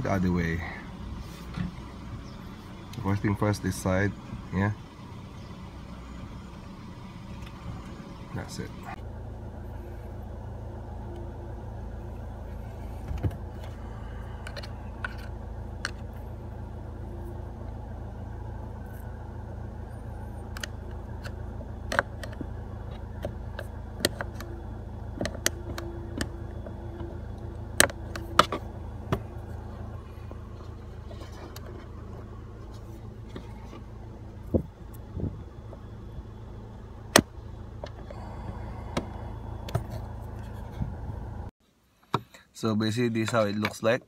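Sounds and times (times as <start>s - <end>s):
car engine idling: 0.0s - 41.6s.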